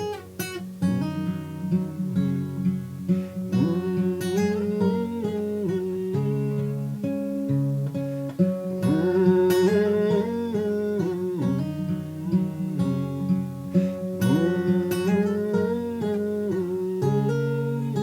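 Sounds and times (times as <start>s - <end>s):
acoustic guitar riff: 0.0s - 18.0s.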